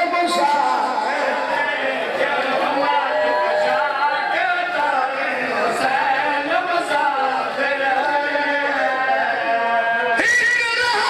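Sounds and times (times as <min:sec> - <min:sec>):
men crying out and chanting: 0:00.0 - 0:11.0.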